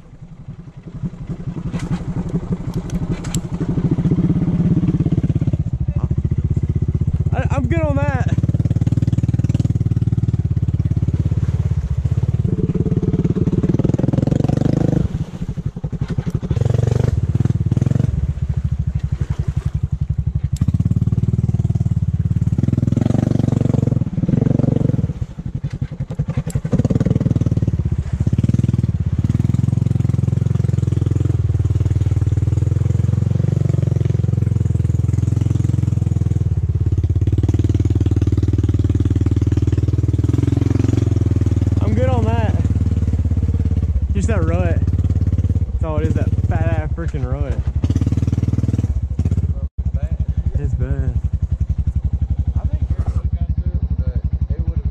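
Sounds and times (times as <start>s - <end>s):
quad bike engine running: 0.0s - 54.9s
vehicle through mud and water: 0.0s - 54.9s.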